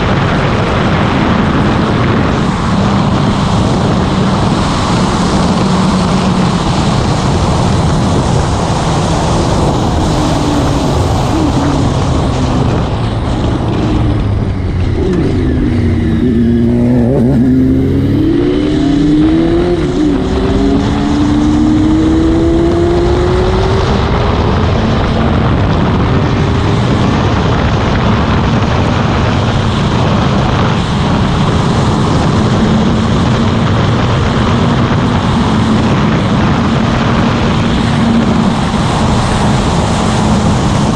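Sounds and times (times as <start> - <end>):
gliding engine tones: 0.0 - 40.9
motorcycle engine: 0.0 - 40.9
wind rush: 0.0 - 40.9.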